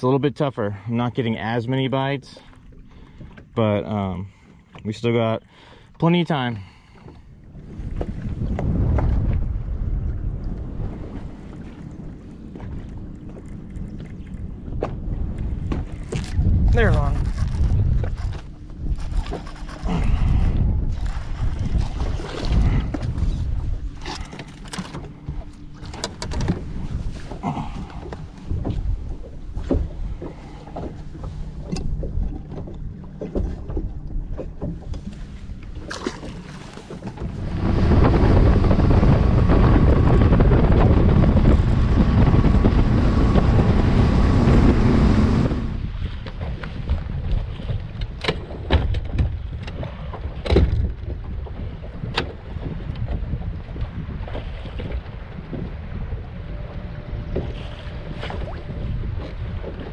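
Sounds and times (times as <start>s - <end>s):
wind: 0.0s - 59.9s
water lapping: 0.6s - 59.9s.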